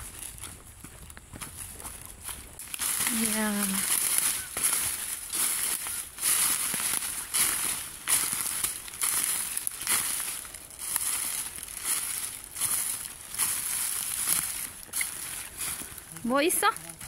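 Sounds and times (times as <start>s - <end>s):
footsteps on dry leaves: 0.0s - 17.0s.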